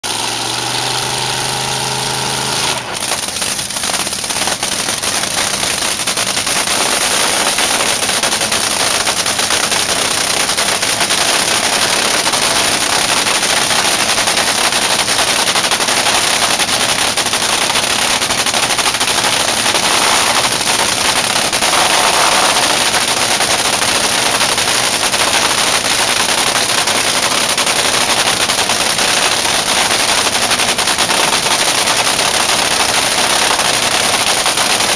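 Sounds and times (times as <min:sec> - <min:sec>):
dragster engine crackling rattle: 0:00.0 - 0:34.9.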